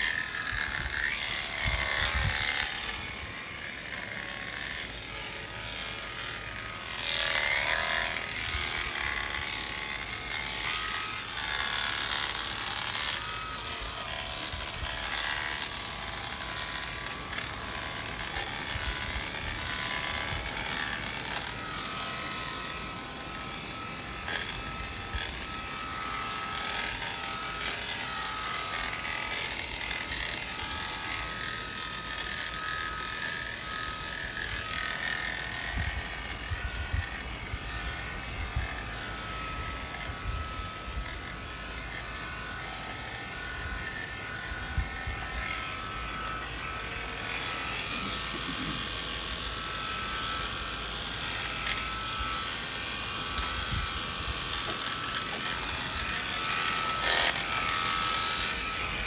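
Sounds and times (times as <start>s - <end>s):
electric shearing clippers running: 0.0s - 59.0s.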